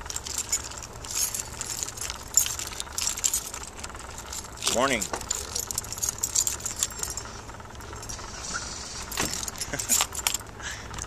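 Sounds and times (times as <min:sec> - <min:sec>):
bicycle metallic jingling rattle: 0:00.0 - 0:10.6
low road rumble: 0:00.0 - 0:11.0.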